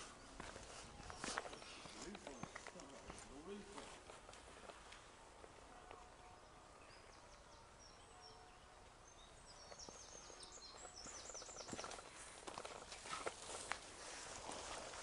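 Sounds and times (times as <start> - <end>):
birds chirping: 0.0 - 15.0
quiet outdoor ambience: 0.0 - 15.0.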